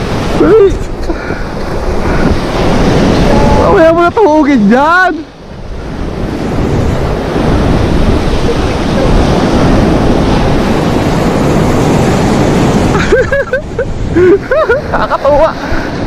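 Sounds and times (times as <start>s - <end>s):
sea waves breaking: 0.0s - 16.0s
wind buffeting microphone: 0.0s - 16.0s.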